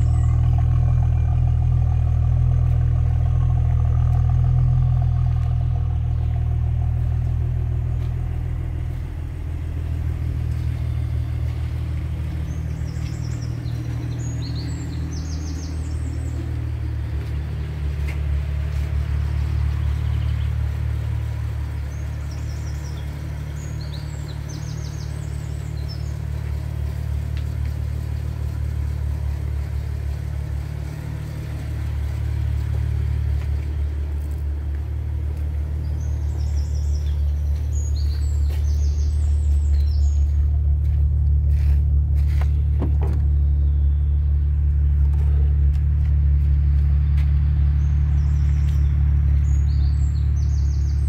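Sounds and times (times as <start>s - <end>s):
birds chirping: 0.0s - 3.4s, 4.5s - 41.7s, 42.3s - 45.5s, 46.4s - 51.0s
car engine idling: 0.0s - 51.0s.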